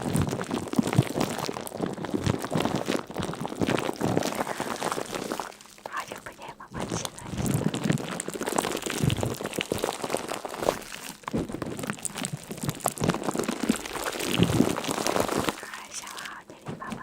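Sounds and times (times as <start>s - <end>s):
patter of small crackles: 0.0s - 17.0s.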